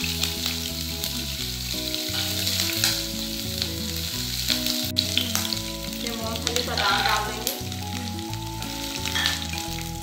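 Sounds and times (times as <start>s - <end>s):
food sizzling in hot oil: 0.0s - 10.0s
light background music: 0.0s - 10.0s.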